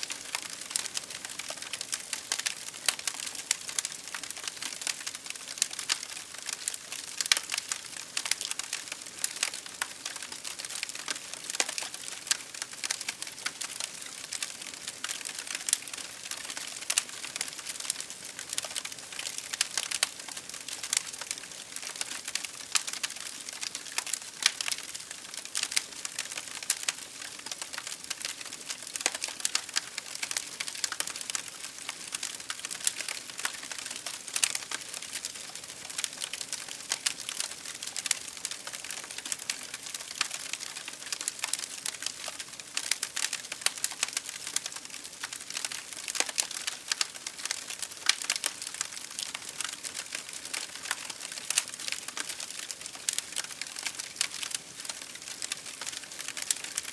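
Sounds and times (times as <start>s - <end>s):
campfire crackling: 0.1s - 56.9s.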